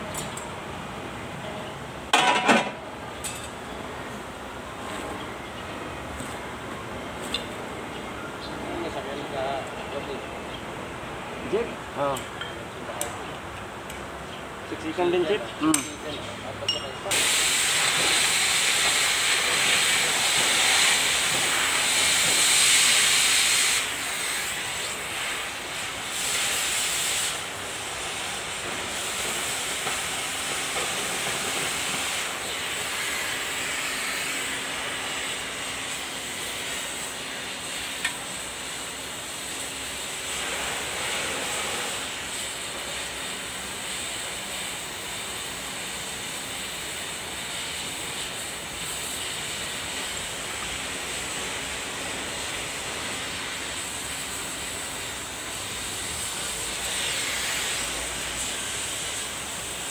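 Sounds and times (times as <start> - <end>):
steady hissing noise: 0.0 - 59.9.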